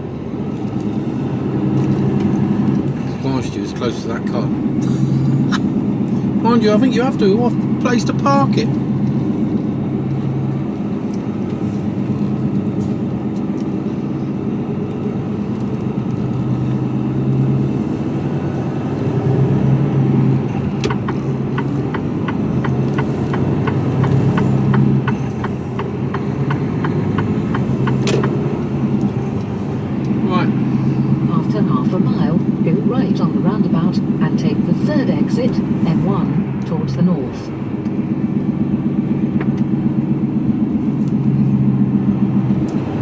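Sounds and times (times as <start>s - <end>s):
truck diesel engine running: 0.0s - 43.0s
turn indicator ticking: 5.3s - 43.0s.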